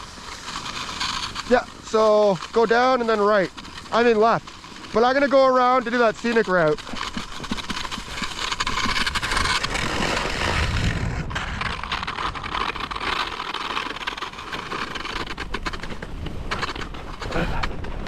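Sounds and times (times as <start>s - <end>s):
ski scraping over packed snow: 0.0s - 18.0s.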